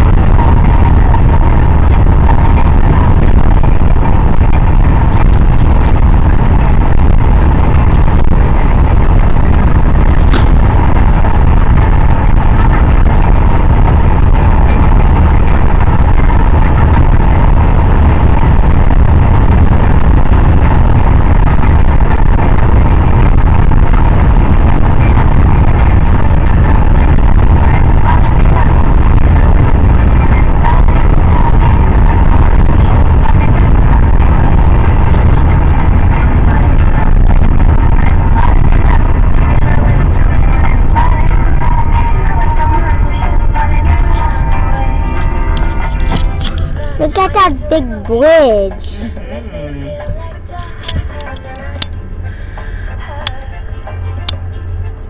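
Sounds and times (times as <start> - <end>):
faint steady hum: 0.0 - 55.0
vehicle running rumble: 0.0 - 55.0.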